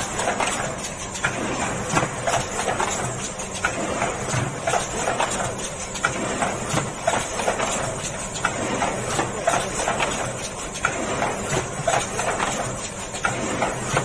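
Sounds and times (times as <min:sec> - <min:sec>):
machine mechanical clacks: 0:00.0 - 0:14.0
machine running hum: 0:00.0 - 0:14.0.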